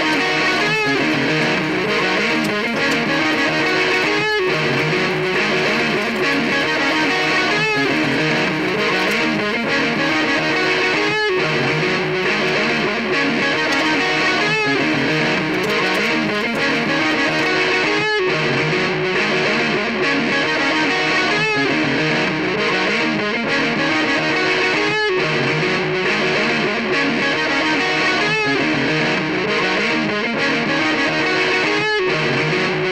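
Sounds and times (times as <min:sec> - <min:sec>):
distorted electric guitar riff: 0:00.0 - 0:29.6.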